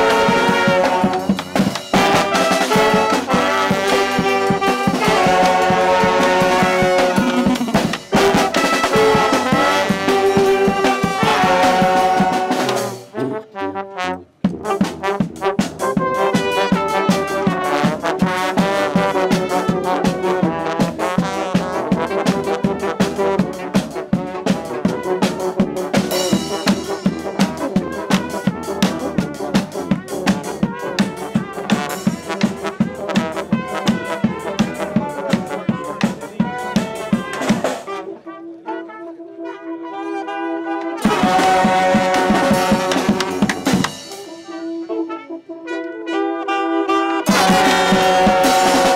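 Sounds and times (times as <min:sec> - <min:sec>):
snare and bass drum beat: 0:00.0 - 0:13.1, 0:14.4 - 0:37.9, 0:41.0 - 0:44.3, 0:47.3 - 0:48.9
brass band playing: 0:00.0 - 0:48.9.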